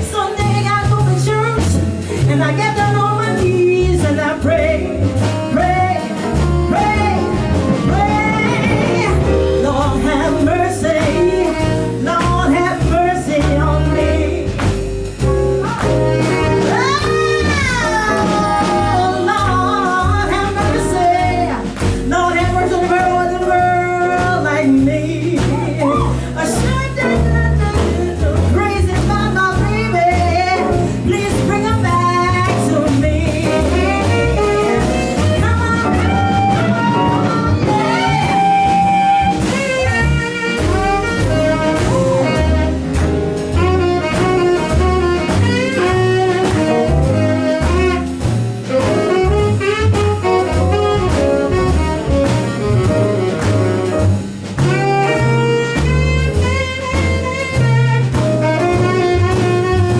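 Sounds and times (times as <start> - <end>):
saxophone solo: 0.0 - 14.5, 15.6 - 24.6, 25.5 - 59.9
jazz band playing blues: 0.0 - 59.9
walking double bass line: 0.0 - 59.9.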